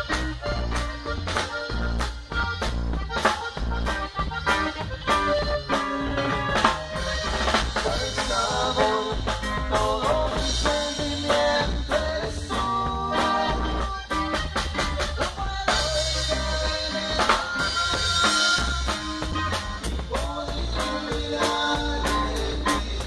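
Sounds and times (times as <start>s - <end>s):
accordion and keyboard melody: 0.0s - 23.0s
bass guitar: 0.0s - 23.0s
congas and timbales: 0.0s - 23.0s.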